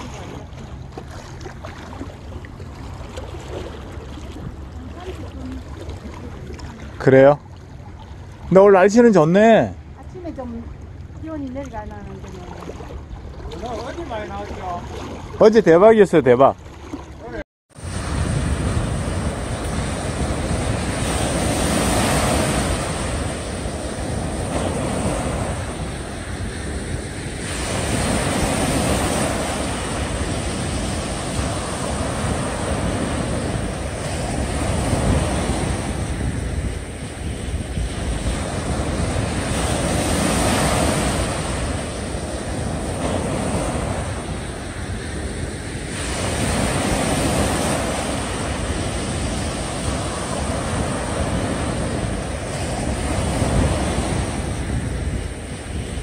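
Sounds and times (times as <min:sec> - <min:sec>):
small waves breaking on beach: 0:00.0 - 0:56.0
wind buffeting microphone: 0:00.0 - 0:56.0.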